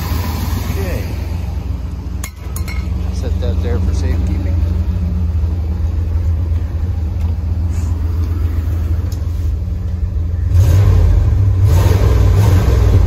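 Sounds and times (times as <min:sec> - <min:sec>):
truck engine idling and revving: 0:00.0 - 0:13.0.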